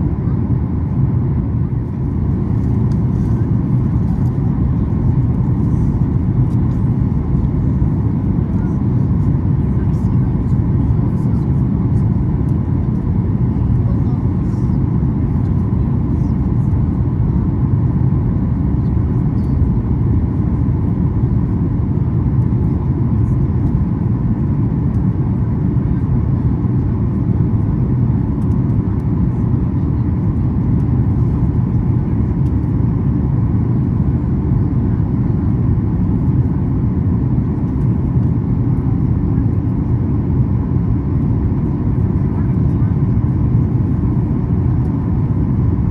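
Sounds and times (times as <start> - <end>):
airplane cabin low rumble: 0.0 - 45.9.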